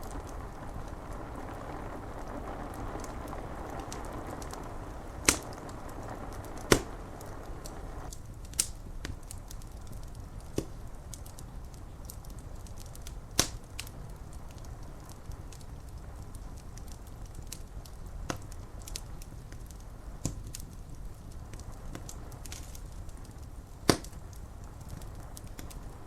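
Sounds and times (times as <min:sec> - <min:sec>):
rain hiss: 0:00.0 - 0:26.0
sharp fire pops: 0:00.0 - 0:26.0
wood fire crackling: 0:00.0 - 0:26.0.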